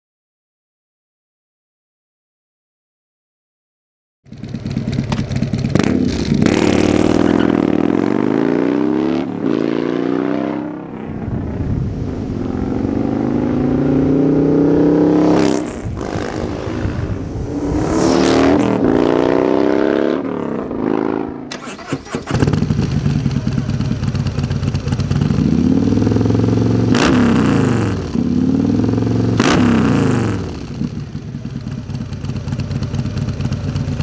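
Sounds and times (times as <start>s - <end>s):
motorcycle engine accelerating: 4.3s - 34.0s.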